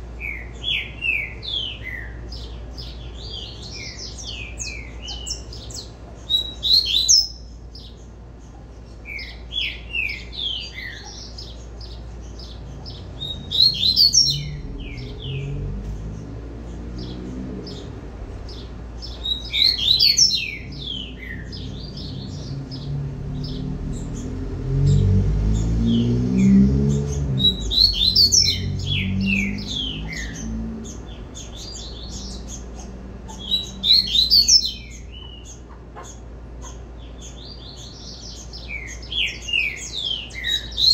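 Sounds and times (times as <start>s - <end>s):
bird chirping song: 0.0s - 40.9s.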